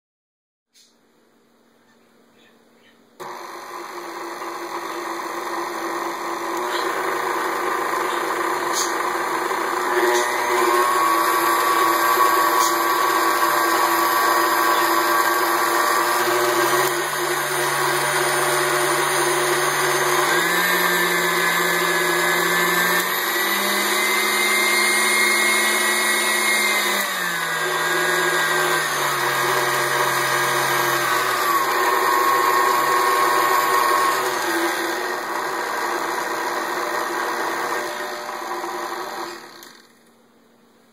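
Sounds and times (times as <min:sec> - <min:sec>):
stand mixer motor running: 0:03.2 - 0:39.9.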